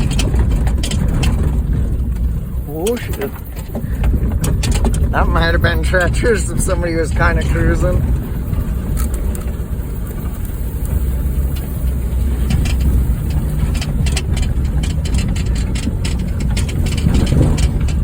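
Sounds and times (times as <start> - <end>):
car clicks and knocks over bumps: 0.0 - 18.0
car engine and road noise: 0.0 - 18.0.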